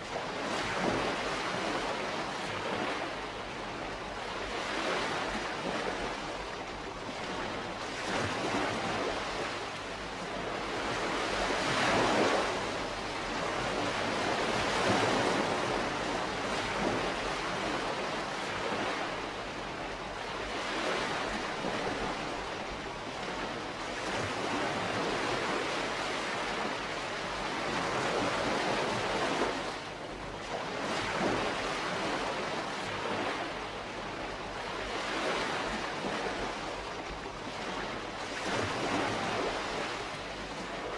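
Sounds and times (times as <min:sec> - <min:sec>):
waves washing on shore: 0:00.0 - 0:40.9.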